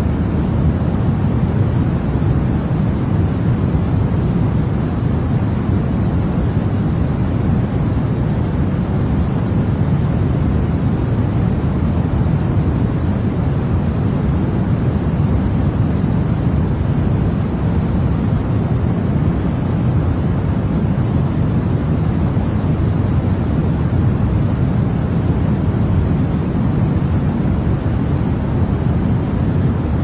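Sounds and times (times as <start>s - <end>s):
deep white noise: 0.0s - 30.0s.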